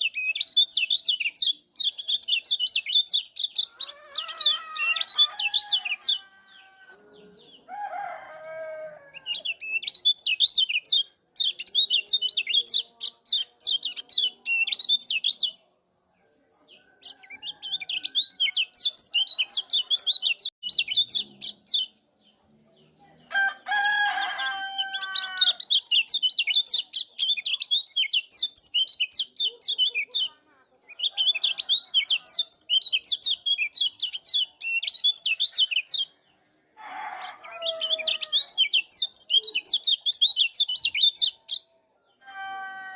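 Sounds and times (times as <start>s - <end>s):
bird chirping song: 0.0s - 42.9s.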